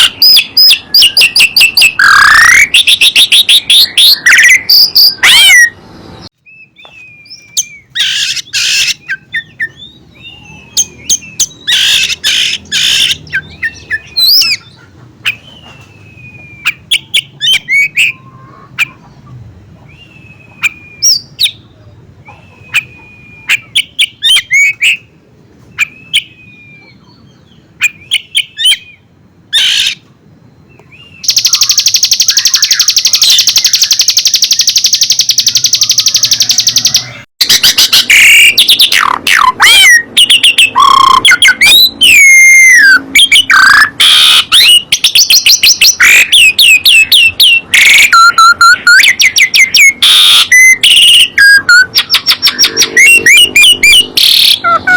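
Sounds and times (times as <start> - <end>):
bird trilling: 0.0 - 30.1, 30.7 - 54.9
songbirds chirping: 0.0 - 54.9.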